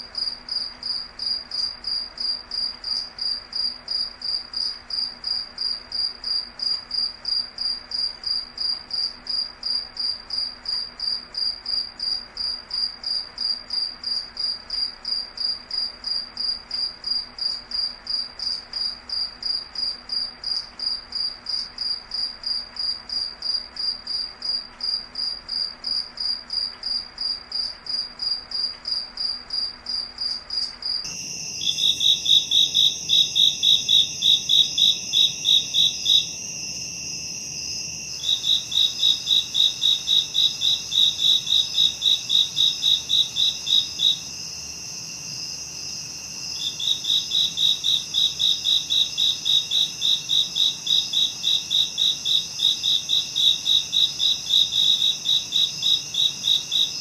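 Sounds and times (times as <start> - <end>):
loud cricket chirps: 0.0 - 57.0
steady high cricket trill: 0.0 - 57.0.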